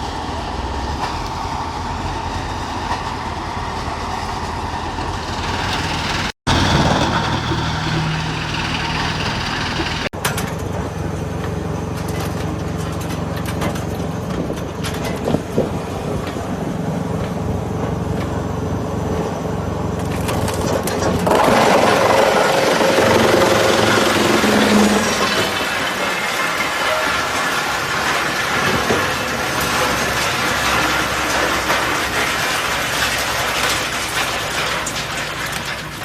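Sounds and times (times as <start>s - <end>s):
wood chipper running: 0.0s - 10.4s, 15.9s - 36.0s.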